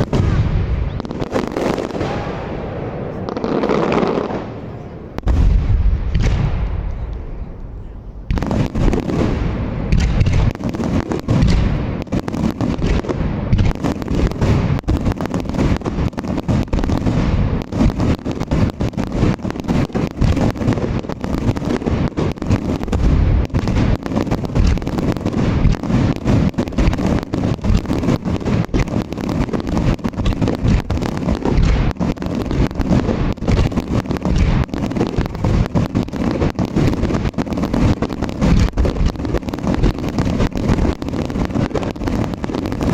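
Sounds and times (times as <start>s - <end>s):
fireworks booms and cracks: 0.0s - 42.9s.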